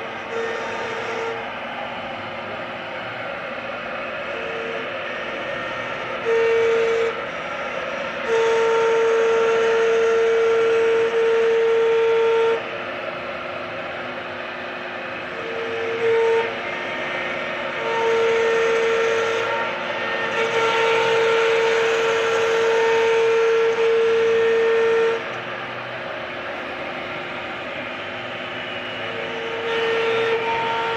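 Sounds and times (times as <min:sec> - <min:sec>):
cnc router spindle whine: 0:00.0 - 0:30.9
machine running noise: 0:00.0 - 0:30.9.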